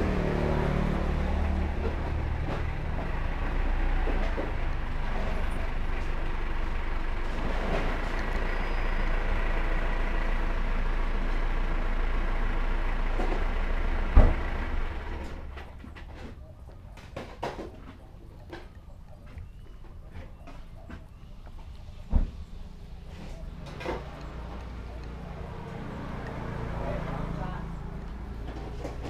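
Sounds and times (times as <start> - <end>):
large vehicle engine rumbling: 0.0 - 29.0.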